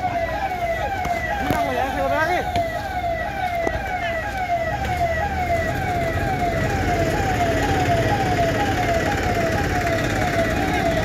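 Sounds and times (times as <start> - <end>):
emergency vehicle siren: 0.0 - 11.0.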